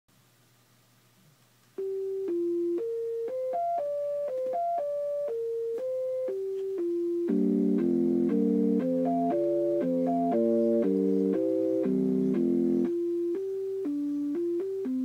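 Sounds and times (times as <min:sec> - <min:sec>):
electronic tone melody: 0:01.8 - 0:15.0.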